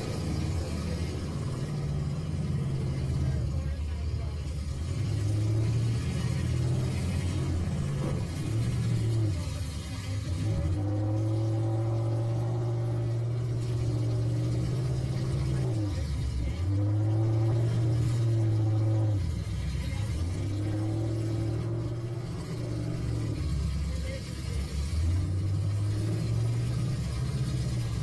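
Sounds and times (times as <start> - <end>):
pickup truck engine revving: 0.0 - 28.0.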